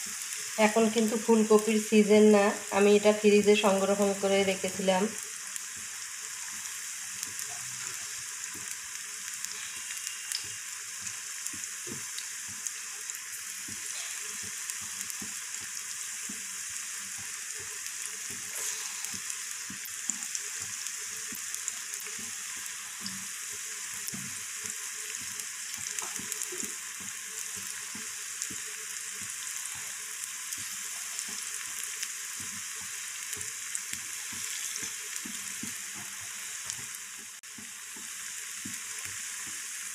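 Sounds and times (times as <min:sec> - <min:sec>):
food deep-frying in hot oil: 0:00.0 - 0:39.9.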